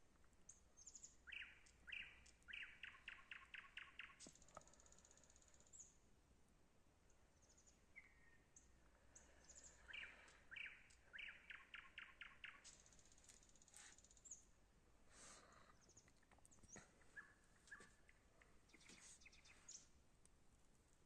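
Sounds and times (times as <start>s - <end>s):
songbirds calling and singing: 0.4s - 6.0s, 7.1s - 14.6s, 15.2s - 20.0s.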